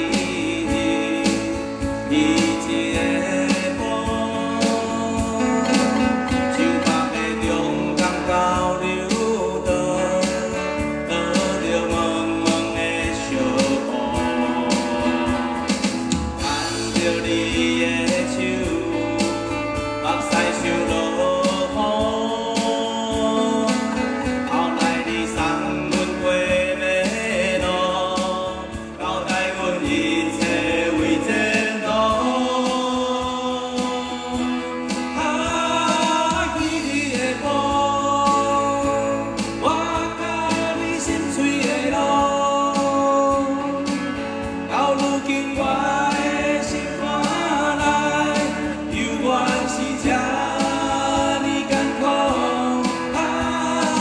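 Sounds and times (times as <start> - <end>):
acoustic guitars: 0.0 - 54.0
electric bass: 0.0 - 54.0
men singing together: 0.0 - 54.0.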